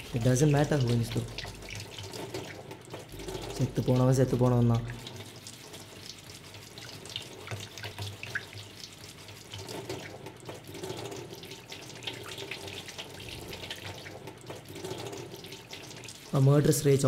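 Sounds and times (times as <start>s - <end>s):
tap water splashing into sink: 0.0s - 16.9s.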